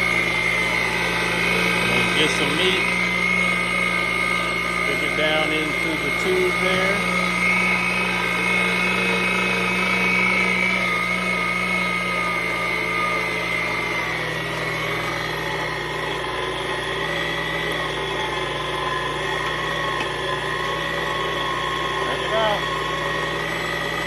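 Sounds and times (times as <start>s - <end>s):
electric meat grinder running: 0.0s - 24.0s.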